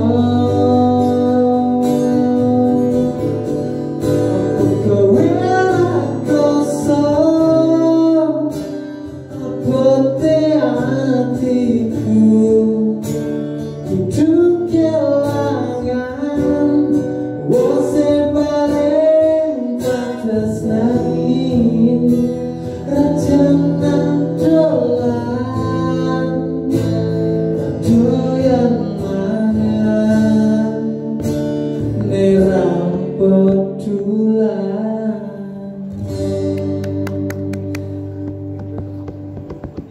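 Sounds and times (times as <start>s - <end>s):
man singing pop ballad: 0.0s - 38.4s
strummed acoustic guitar: 0.0s - 39.9s.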